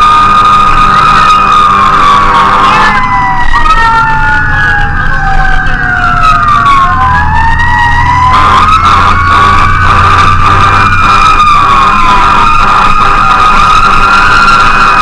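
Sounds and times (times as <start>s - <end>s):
engine rumble: 0.0s - 15.0s
fire engine siren wailing: 0.0s - 15.0s
second siren tone gliding: 0.0s - 15.0s.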